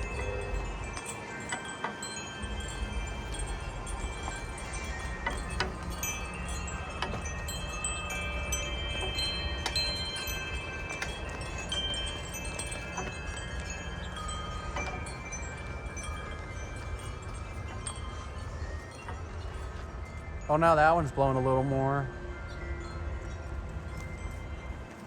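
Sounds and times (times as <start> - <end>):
low rumble of wind: 0.0 - 25.0
wind chimes ringing: 0.0 - 25.0.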